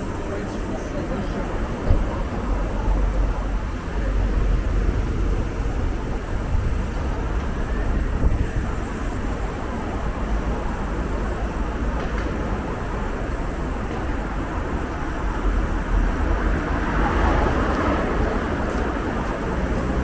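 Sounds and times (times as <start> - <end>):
city traffic noise: 0.0 - 20.0
wind rumble on microphone: 1.3 - 20.0.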